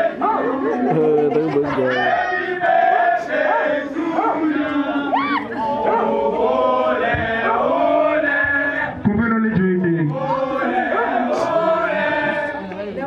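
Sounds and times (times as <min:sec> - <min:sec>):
group singing in chorus: 0:00.0 - 0:01.2, 0:01.9 - 0:09.0, 0:10.0 - 0:13.0.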